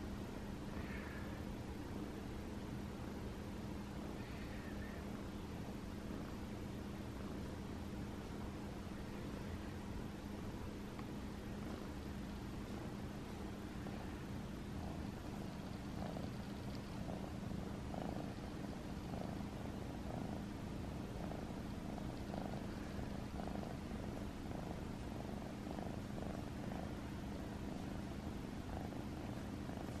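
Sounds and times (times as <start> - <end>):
cat purring: 2.5 - 30.0.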